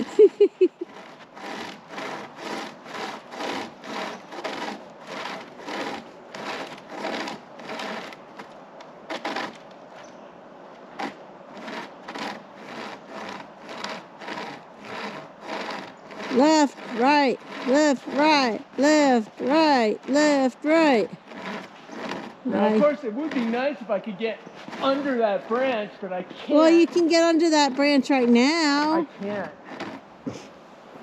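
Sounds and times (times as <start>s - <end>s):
hand chain saw rasping through wood: 0.0s - 10.0s, 10.8s - 30.6s.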